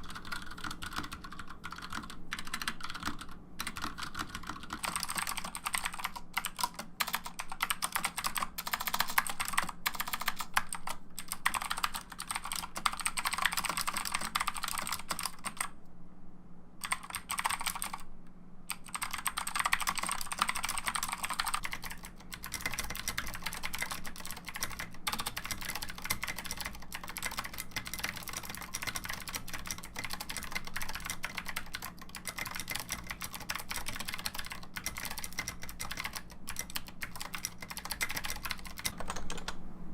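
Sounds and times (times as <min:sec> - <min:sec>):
typing on computer keyboard: 0:00.0 - 0:15.7, 0:16.8 - 0:18.0, 0:18.7 - 0:39.6.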